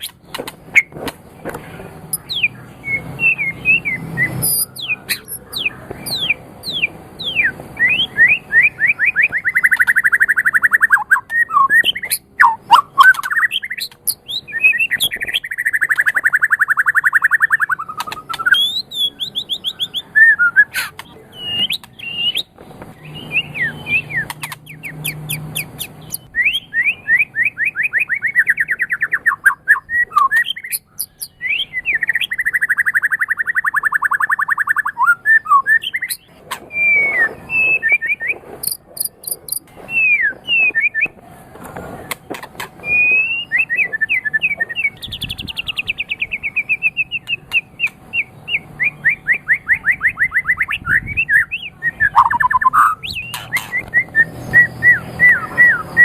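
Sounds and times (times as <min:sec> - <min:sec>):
songbird trilling and whistling: 0:00.0 - 0:01.0, 0:02.1 - 0:41.2, 0:42.0 - 0:56.0.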